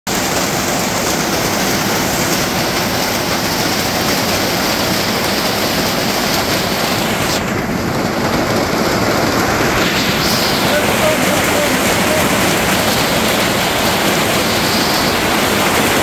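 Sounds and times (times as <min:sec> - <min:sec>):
hail and rain pelting ground: 0:00.1 - 0:16.0.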